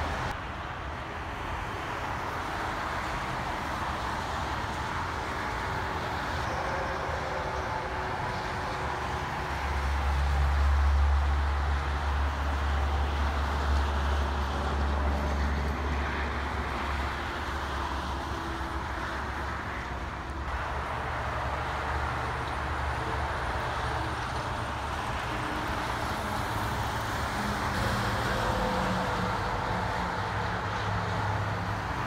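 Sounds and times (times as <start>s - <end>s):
diesel truck engines droning: 0.0s - 32.0s
tyre and road noise: 0.0s - 32.0s.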